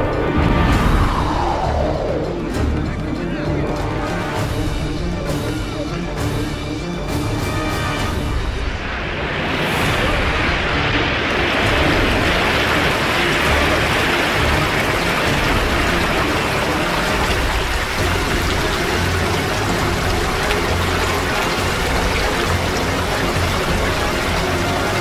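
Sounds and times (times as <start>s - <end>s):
deep rumble: 0.0s - 5.8s, 8.2s - 25.0s
rushing water: 0.0s - 25.0s.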